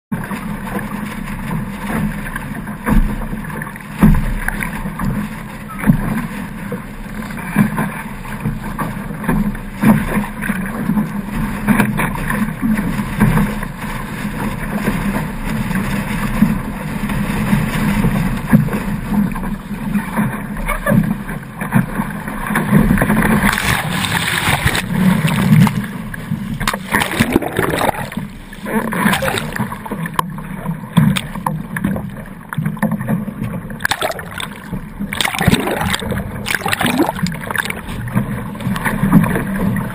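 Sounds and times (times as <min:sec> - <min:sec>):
underwater sound: 0:00.1 - 0:39.9
water slapping against hull: 0:00.1 - 0:39.9.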